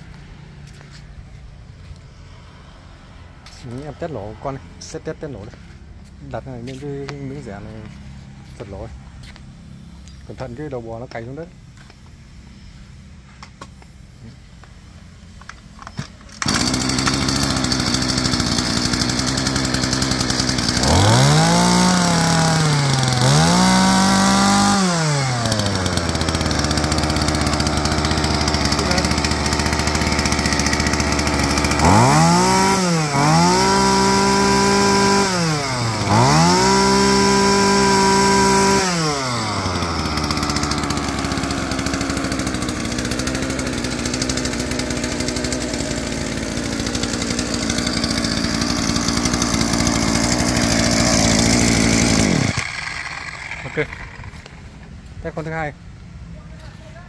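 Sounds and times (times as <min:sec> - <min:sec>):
brush cutter engine revving: 0:02.3 - 0:12.0, 0:15.4 - 0:55.8.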